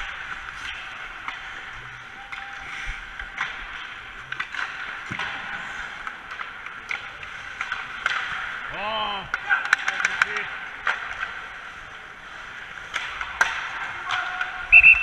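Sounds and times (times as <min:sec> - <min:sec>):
hockey sticks and pucks clacking: 0:00.0 - 0:15.0
skate blades scraping ice: 0:00.0 - 0:15.0.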